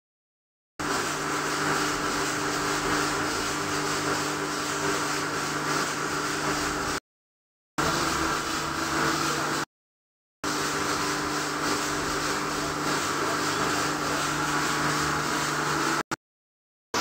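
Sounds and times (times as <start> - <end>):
machine hum with hiss: 0.8 - 7.0, 7.8 - 9.7, 10.4 - 16.1.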